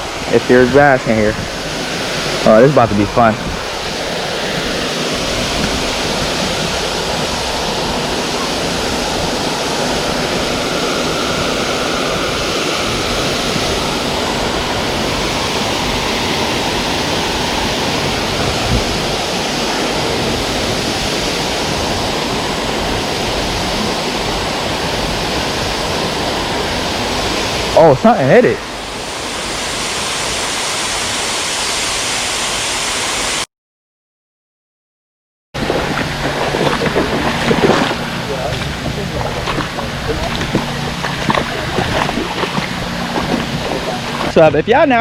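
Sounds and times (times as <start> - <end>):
waterfall rushing: 0.0 - 33.4, 35.6 - 45.0.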